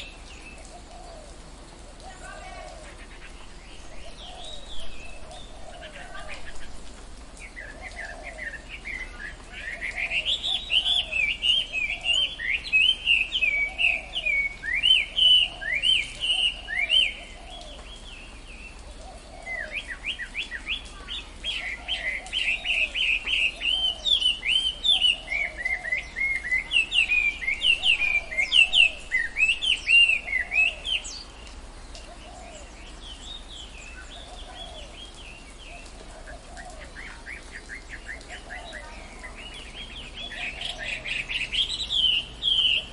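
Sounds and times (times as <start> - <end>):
low repeating bird call: 0.0 - 6.8, 7.4 - 42.9
birds chirping rapidly: 0.0 - 42.9.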